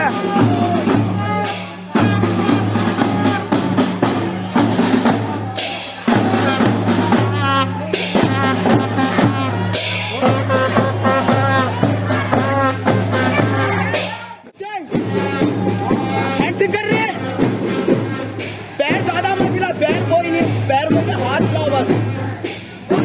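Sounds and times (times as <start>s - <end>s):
song with drum beat: 0.0s - 23.0s.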